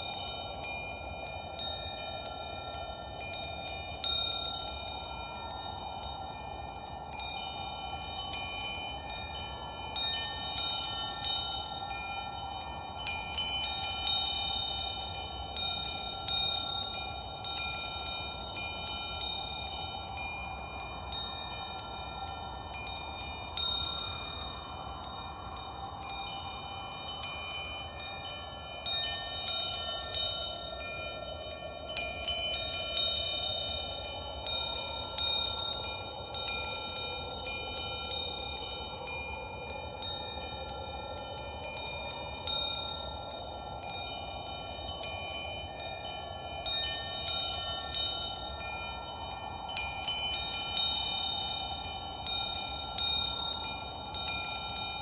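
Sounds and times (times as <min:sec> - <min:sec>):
soft steady background wash: 0:00.0 - 0:55.0
wind chimes ringing: 0:00.0 - 0:55.0.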